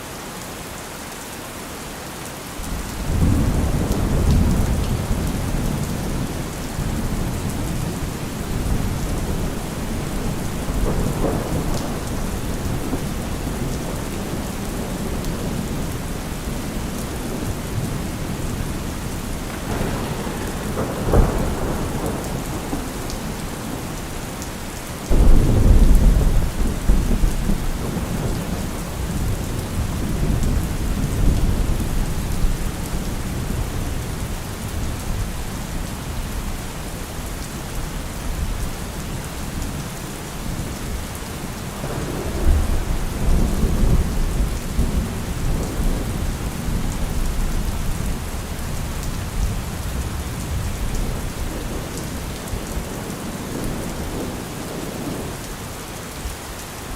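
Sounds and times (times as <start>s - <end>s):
steady rain: 0.0s - 56.9s
rolling thunder: 2.6s - 37.4s, 41.5s - 55.4s.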